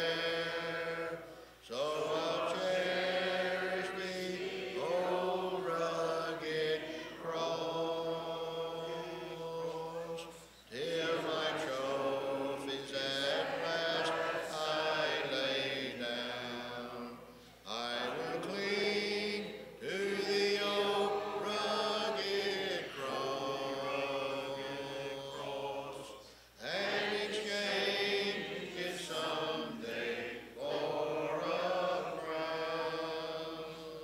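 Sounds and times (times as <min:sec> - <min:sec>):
congregation singing a hymn: 0:00.0 - 0:34.0.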